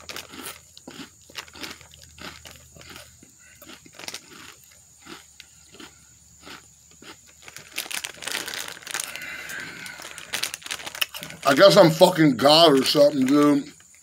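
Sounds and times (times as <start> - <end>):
chips being chewed: 0.0 - 12.1
snack bag crinkling: 0.0 - 14.0.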